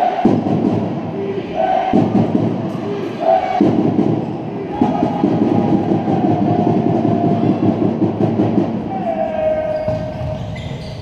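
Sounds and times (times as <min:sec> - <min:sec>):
crowd cheering and shouting: 0:00.0 - 0:08.1, 0:08.8 - 0:10.5.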